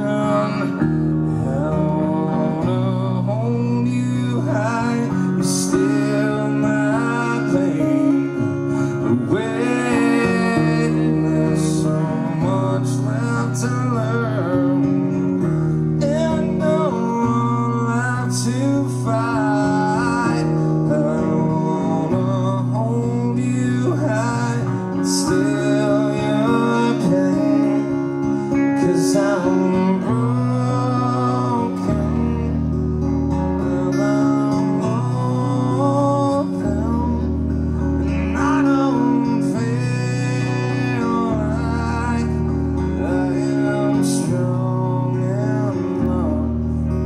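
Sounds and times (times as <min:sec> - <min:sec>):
electric guitar chords: 0:00.0 - 0:47.0
long held bass notes: 0:00.0 - 0:47.0
man singing into microphone: 0:00.0 - 0:47.0.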